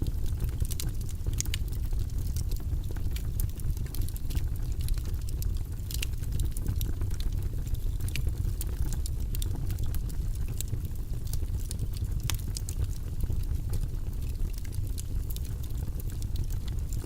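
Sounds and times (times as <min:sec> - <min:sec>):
fire rumbling and crackling: 0:00.0 - 0:17.0.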